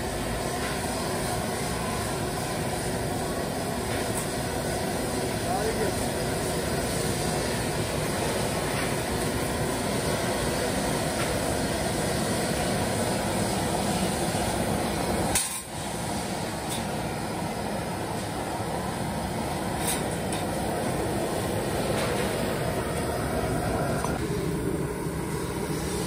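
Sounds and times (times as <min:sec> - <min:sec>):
gas burner flame roaring: 0:00.0 - 0:26.0.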